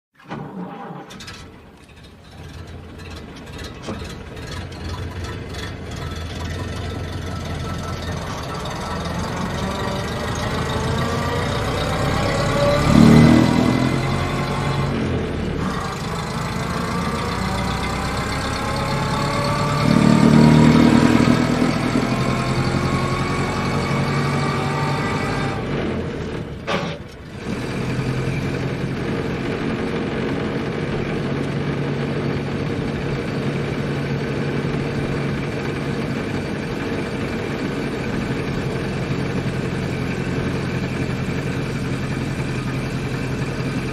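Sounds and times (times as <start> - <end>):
car engine running: 1.2 - 43.9.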